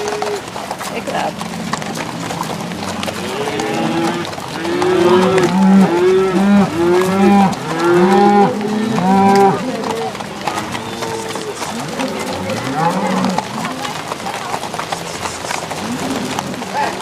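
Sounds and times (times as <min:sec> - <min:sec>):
cattle mooing and bawling: 0:00.0 - 0:14.0, 0:15.2 - 0:17.0.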